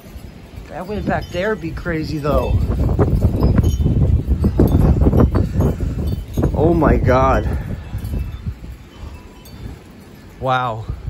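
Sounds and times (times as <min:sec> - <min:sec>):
wind buffeting microphone: 0:00.0 - 0:11.0
wind chimes ringing: 0:00.0 - 0:11.0.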